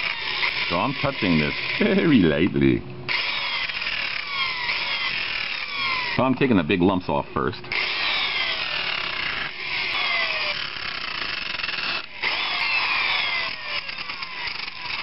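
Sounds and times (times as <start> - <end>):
drill sanding disc grinding foam: 0.0 - 2.2, 3.1 - 6.2, 7.7 - 15.0.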